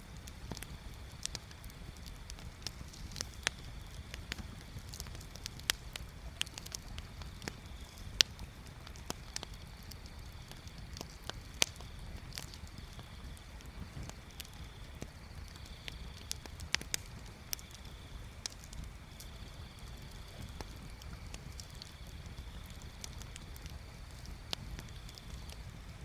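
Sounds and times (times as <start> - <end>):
bonfire crackling and popping: 0.0 - 26.0.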